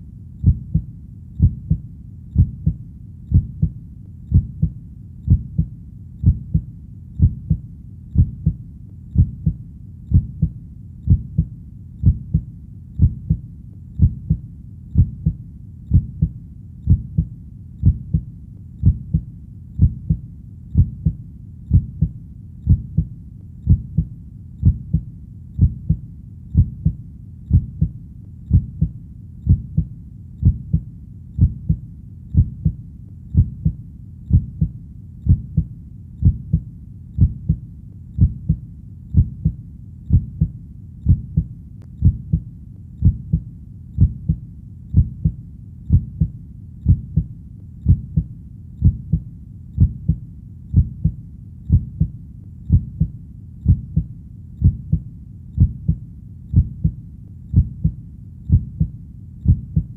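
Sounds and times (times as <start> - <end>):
heartbeat thumping: 0.0 - 37.6, 38.2 - 59.9.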